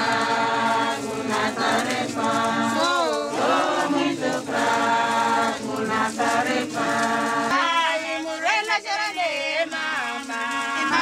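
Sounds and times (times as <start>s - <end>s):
choir singing long notes: 0.0s - 8.7s, 9.4s - 11.0s.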